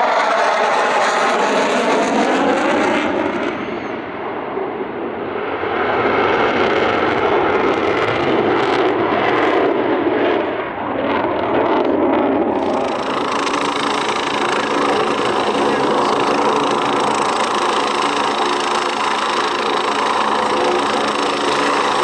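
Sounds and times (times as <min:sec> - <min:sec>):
jet aircraft roaring past: 0:00.0 - 0:22.0.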